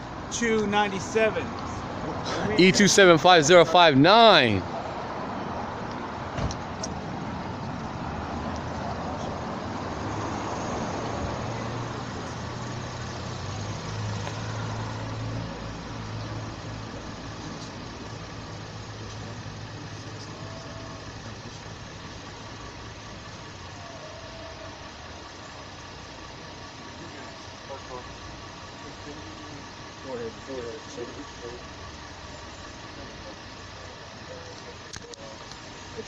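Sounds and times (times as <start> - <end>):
street traffic noise: 0.0 - 36.0
vehicle engine humming: 0.0 - 36.0.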